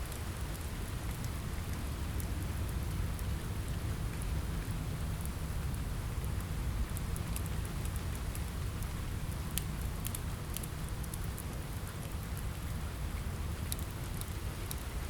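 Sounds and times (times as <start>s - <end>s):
rain on a window: 0.0s - 15.0s
wood fire crackling: 0.0s - 15.0s.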